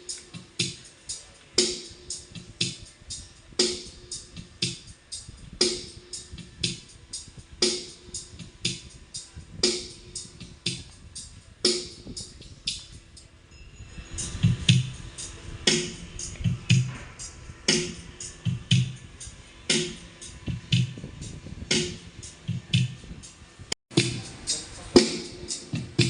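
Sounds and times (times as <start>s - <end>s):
music with steady drum beat: 0.0s - 13.2s, 14.2s - 26.0s.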